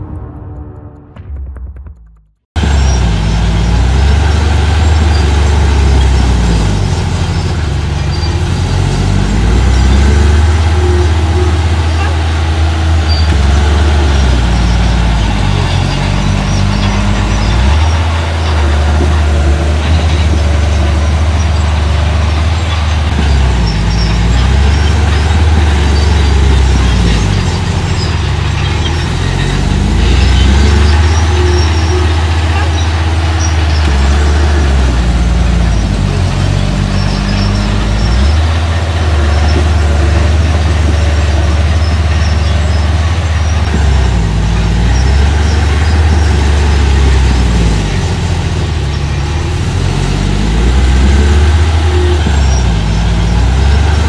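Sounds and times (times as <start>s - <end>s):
machinery engine revving: 2.6s - 54.0s.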